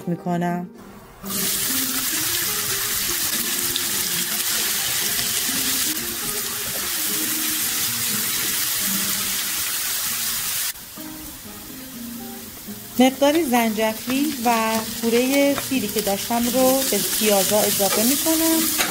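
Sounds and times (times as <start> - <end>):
onions sizzling in hot oil: 1.2 - 18.9.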